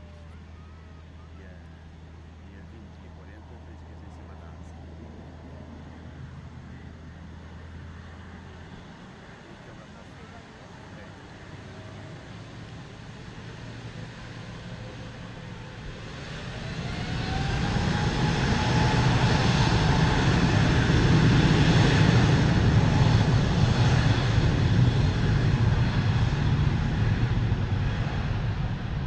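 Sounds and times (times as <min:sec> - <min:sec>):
airliner engines roaring: 0:00.0 - 0:29.0.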